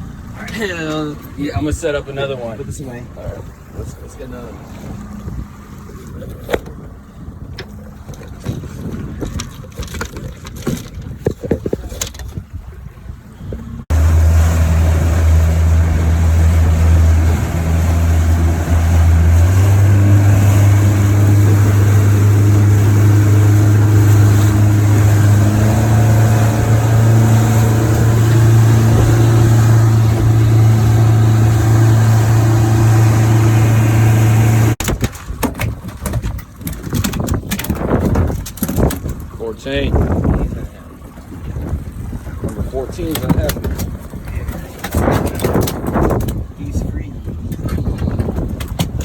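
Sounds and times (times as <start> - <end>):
outboard motor running: 0.0 - 49.0.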